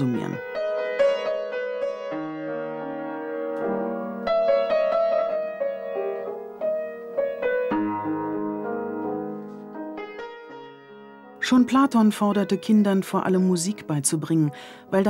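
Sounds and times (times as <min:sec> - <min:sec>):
piano chords and melody: 0:00.0 - 0:15.0.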